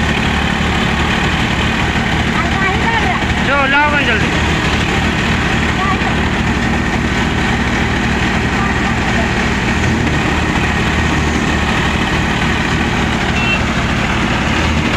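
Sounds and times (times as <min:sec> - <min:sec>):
thresher drum and blower running: 0:00.0 - 0:14.9
tractor diesel engine running: 0:00.0 - 0:14.9.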